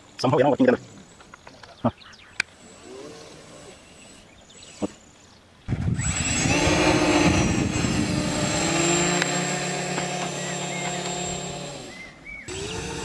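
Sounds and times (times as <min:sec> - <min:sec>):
rc airplane motors whirring: 0:02.6 - 0:13.0.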